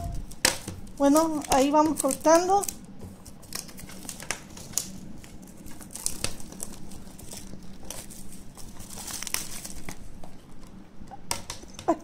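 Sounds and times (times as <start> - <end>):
plastic shrink-wrap crinkling: 0.0 - 11.9.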